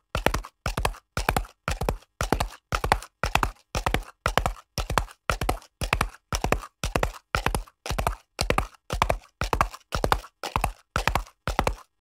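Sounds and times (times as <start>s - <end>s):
horse hooves clip-clopping: 0.0s - 11.9s.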